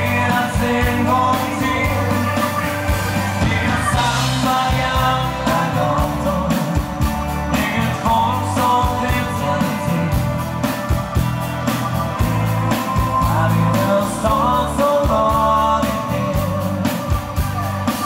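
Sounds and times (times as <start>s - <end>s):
live dance band playing: 0.0s - 18.0s
person singing: 0.0s - 18.0s.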